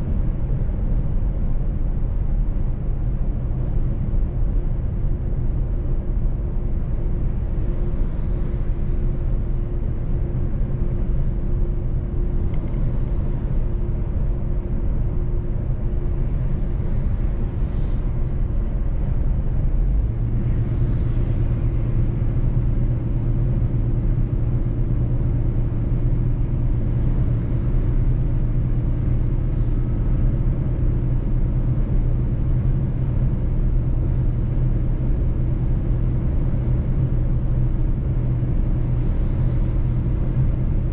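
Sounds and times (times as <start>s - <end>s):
road noise: 0.0s - 40.9s
truck diesel engine drone: 0.0s - 40.9s.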